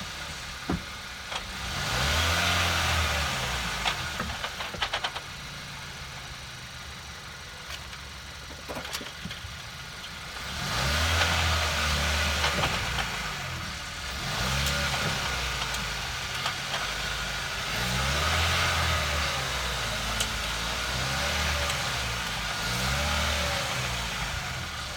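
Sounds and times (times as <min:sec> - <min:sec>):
car engine idling and revving: 0:00.0 - 0:24.9.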